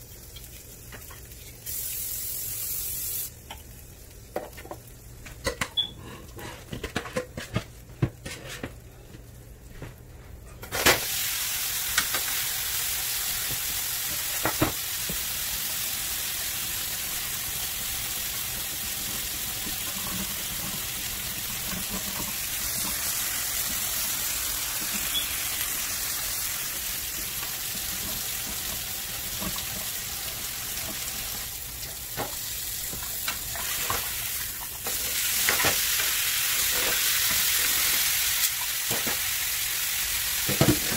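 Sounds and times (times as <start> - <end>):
meat sizzling in hot oil: 0.0 - 3.4, 10.9 - 40.9.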